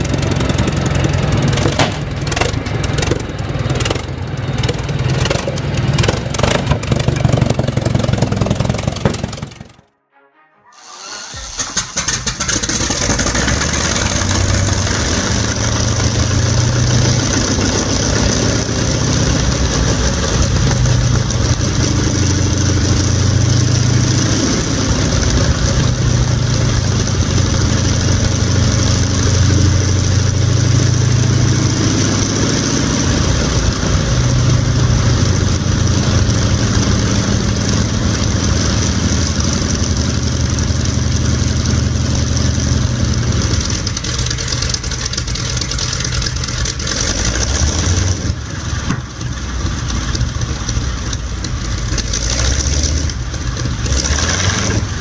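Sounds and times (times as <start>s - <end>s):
old engine running: 0.0s - 9.9s, 11.0s - 55.0s.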